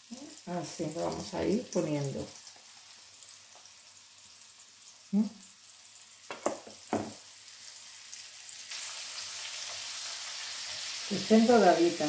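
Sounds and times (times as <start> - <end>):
oil sizzling in a frying pan: 0.0 - 12.0.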